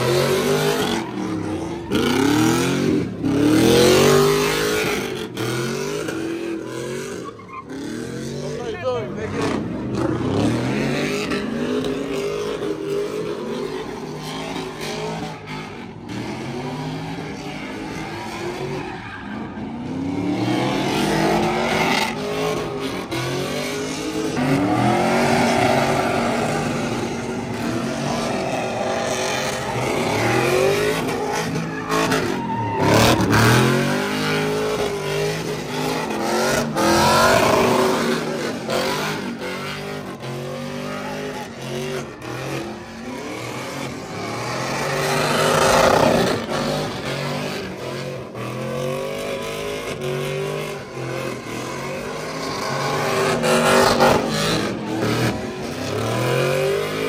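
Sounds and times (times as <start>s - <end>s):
tires squealing: 0.0s - 57.0s
truck engine revving: 0.0s - 57.0s.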